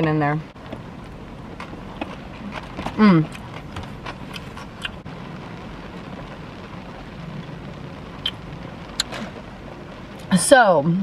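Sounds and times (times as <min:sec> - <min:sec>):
rain on car roof: 0:00.0 - 0:11.0.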